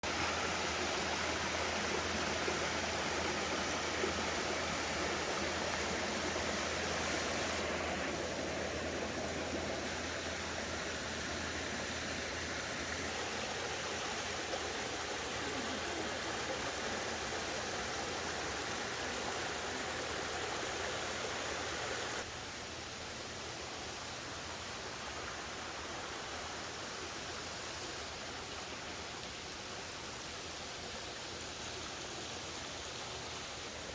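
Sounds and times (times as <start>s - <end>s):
stream rushing over rocks: 0.0s - 33.9s.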